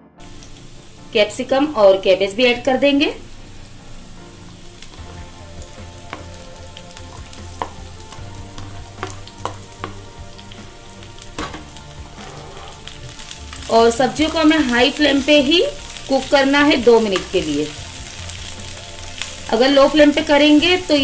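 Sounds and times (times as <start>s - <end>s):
sharp crackles of frying: 0.2s - 21.0s
vegetables sizzling in frying pan: 0.2s - 21.0s.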